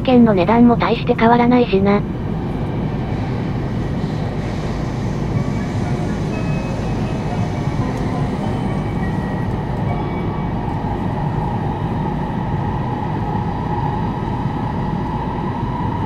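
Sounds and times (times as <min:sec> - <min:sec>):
train wheels rumbling: 0:00.0 - 0:16.0
train whine: 0:00.0 - 0:16.0.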